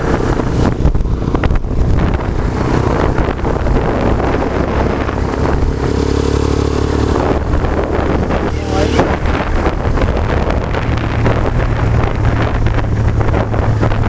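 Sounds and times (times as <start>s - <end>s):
motorcycle engine hum: 0.0s - 14.0s
wind buffeting microphone: 0.0s - 14.0s.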